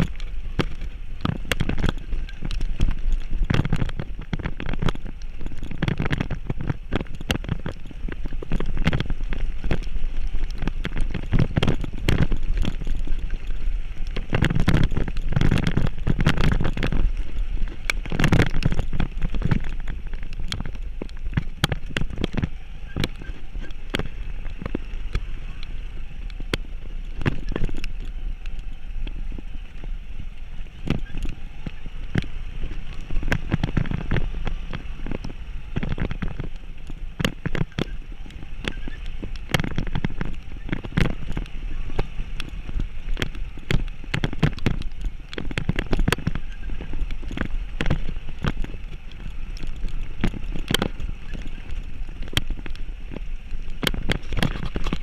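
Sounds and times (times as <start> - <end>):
heavy rain: 0.0 - 55.0
vehicle rumble on rough road: 0.0 - 55.0.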